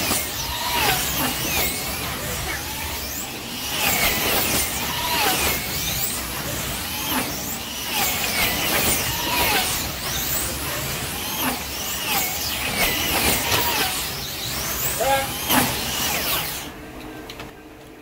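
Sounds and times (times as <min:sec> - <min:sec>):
slot car motors whining: 0:00.0 - 0:18.0.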